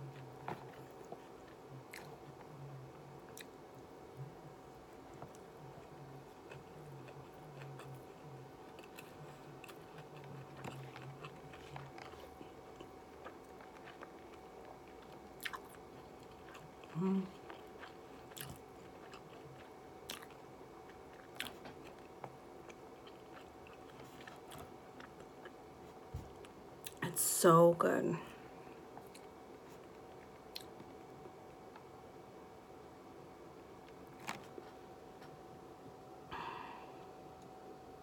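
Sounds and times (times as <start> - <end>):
chewing crispy food: 0.0 - 27.0, 28.7 - 32.0, 33.8 - 35.4
faint steady hum: 0.0 - 38.0.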